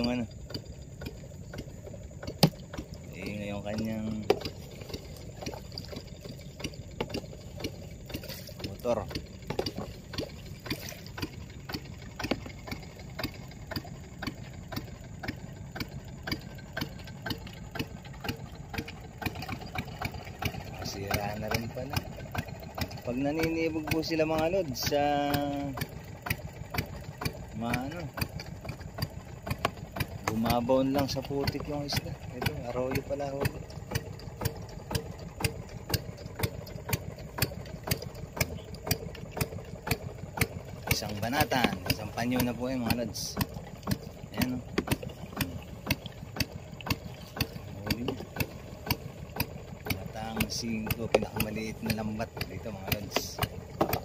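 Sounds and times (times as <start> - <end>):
sharp regular ticking: 0.0 - 54.0
small boat motor idling: 0.0 - 54.0.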